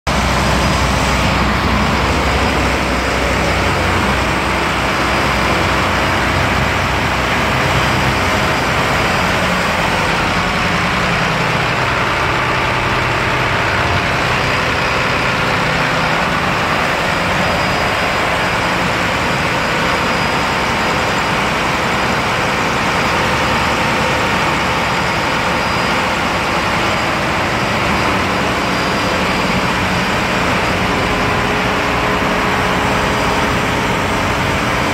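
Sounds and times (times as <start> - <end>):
engine room drone: 0.0 - 34.9.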